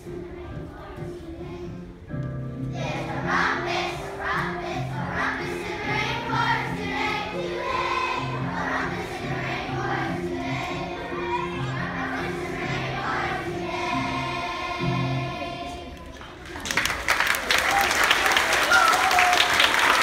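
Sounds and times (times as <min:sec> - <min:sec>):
children's choir singing: 0:00.0 - 0:16.4.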